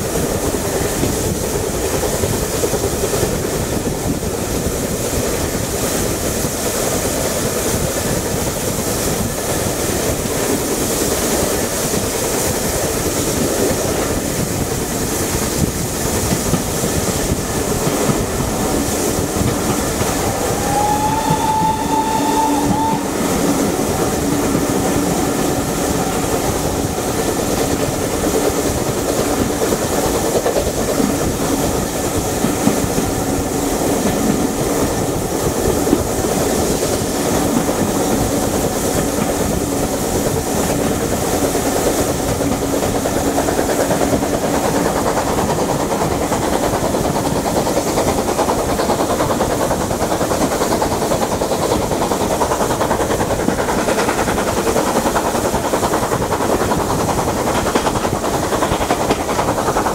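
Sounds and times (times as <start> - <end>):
steam locomotives working: 0.0 - 59.9
train wheels on rails: 0.0 - 59.9.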